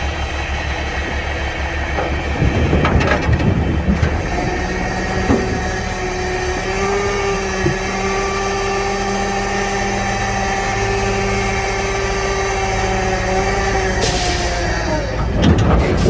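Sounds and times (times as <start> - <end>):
truck engine running: 0.0 - 16.0
whining tone: 1.9 - 15.4.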